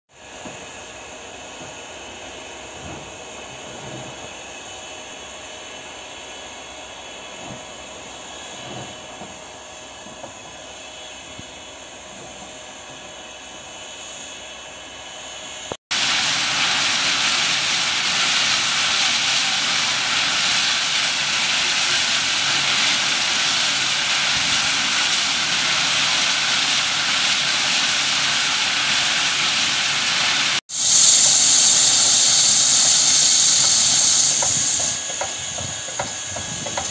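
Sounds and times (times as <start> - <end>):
steam locomotive venting steam: 0.1 - 13.2, 15.9 - 36.9.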